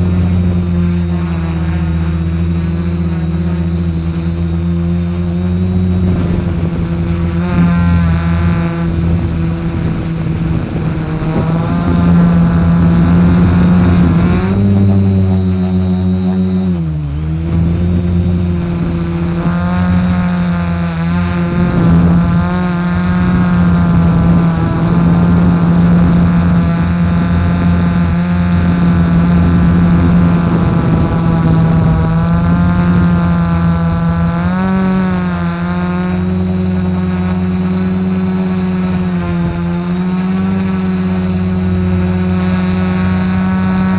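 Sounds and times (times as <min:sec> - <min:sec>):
quadcopter propellers buzzing: 0:00.0 - 0:43.9.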